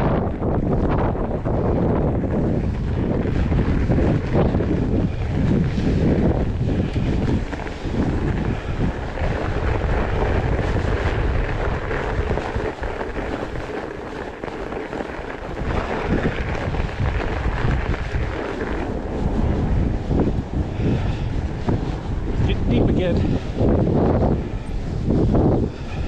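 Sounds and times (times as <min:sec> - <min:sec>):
wind buffeting microphone: 0:00.0 - 0:26.0
tyres crunching on snow: 0:00.7 - 0:26.0.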